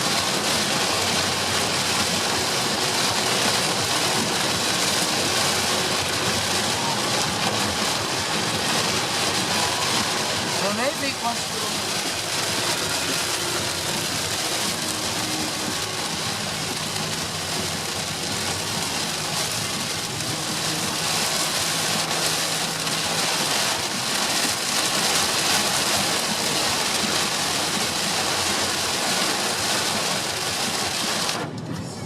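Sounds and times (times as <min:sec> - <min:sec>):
heavy rain hitting a car: 0:00.0 - 0:32.0
tyre and road noise: 0:00.0 - 0:32.0.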